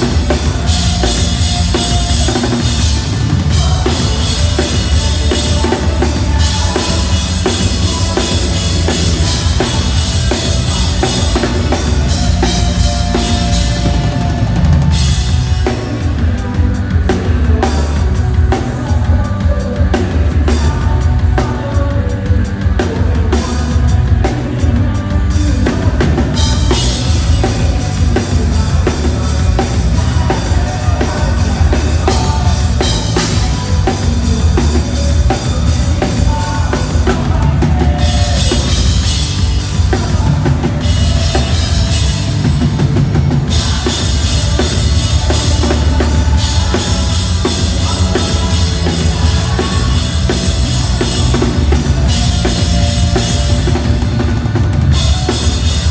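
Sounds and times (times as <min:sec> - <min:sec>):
loud live rock band: 0:00.0 - 0:55.9
pounding drum kit: 0:00.0 - 0:55.9.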